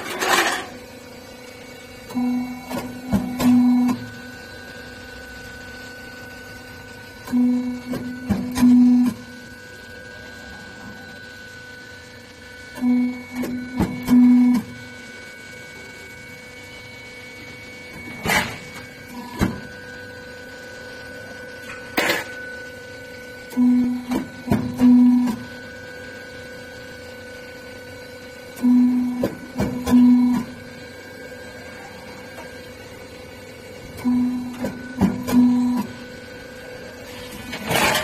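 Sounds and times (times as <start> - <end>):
machine mechanical hum: 0.0 - 38.0
motor whine: 0.0 - 38.0.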